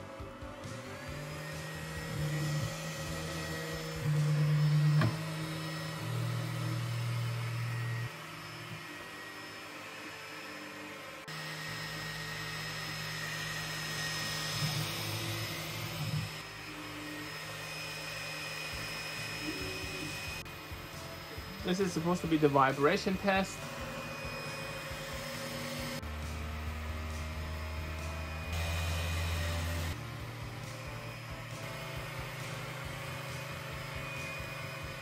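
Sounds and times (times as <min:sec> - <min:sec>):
stepper motors humming: 0:00.0 - 0:35.0.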